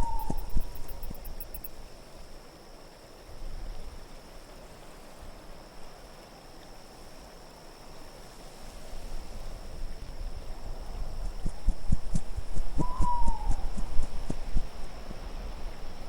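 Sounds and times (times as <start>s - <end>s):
soft wind noise: 0.0s - 16.0s.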